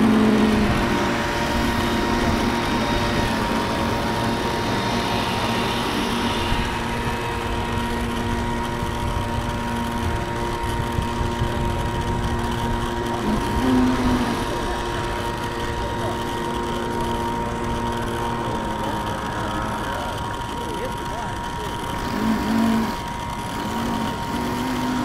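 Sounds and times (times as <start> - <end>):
model boat motor droning: 0.0 - 25.0.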